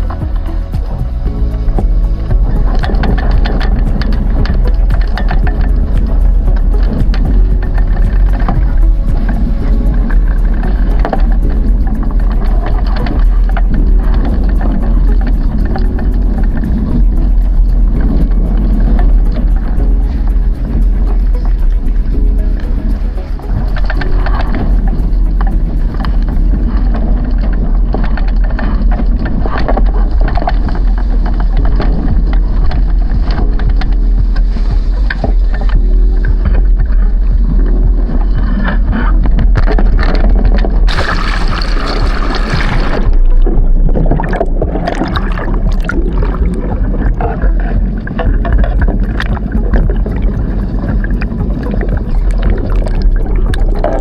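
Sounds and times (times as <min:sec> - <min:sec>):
water against hull: 0:00.0 - 0:54.0
wind buffeting microphone: 0:00.0 - 0:54.0.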